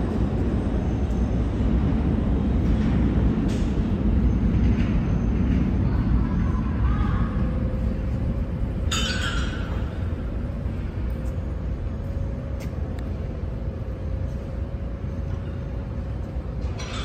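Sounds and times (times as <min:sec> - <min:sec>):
subway train rumble: 0:00.0 - 0:17.0.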